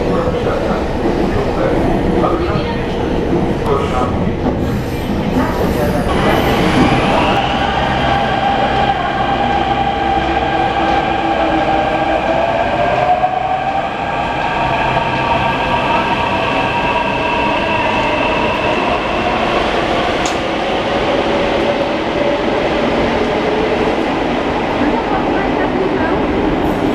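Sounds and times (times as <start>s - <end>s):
electric train rumble: 0.0s - 26.9s.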